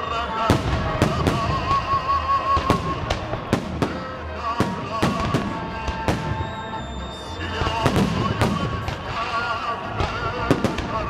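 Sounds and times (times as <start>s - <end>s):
fireworks sharp bangs: 0.3s - 11.0s.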